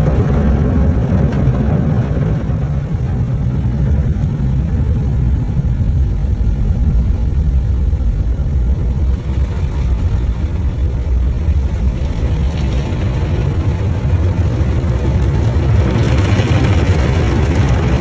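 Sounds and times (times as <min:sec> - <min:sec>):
car wash machinery rumble: 0:00.0 - 0:18.0
water spraying on windows: 0:00.0 - 0:18.0.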